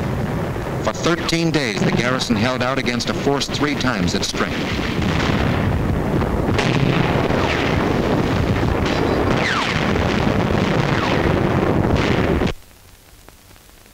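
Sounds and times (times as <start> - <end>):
explosions: 0.0 - 12.6
gunfire: 0.9 - 12.6.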